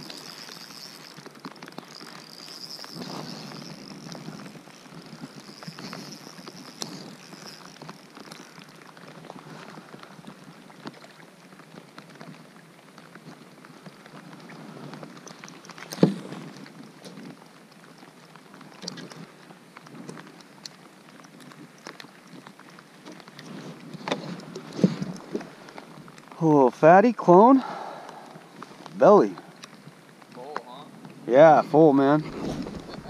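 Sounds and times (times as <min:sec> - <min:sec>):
rain pattering on water: 0:00.0 - 0:33.0.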